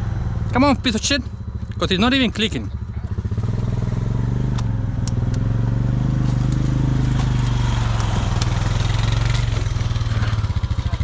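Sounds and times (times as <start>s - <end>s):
vehicle engine idling and revving: 0.0s - 11.0s.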